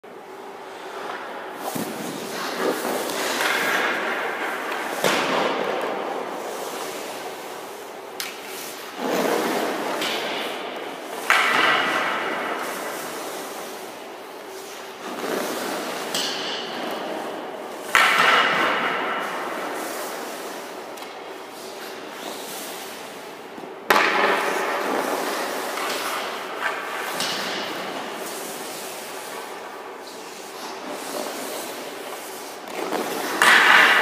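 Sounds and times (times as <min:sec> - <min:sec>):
skate blades scraping ice: 0:00.7 - 0:34.0.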